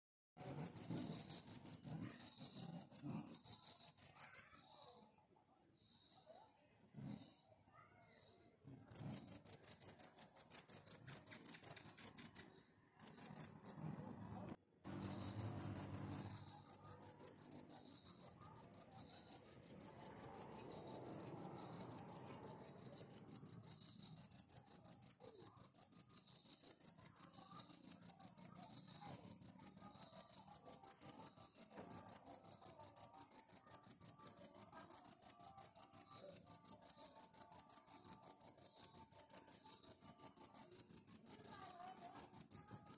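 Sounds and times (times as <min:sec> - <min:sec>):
cricket chirping: 0:00.4 - 0:42.9.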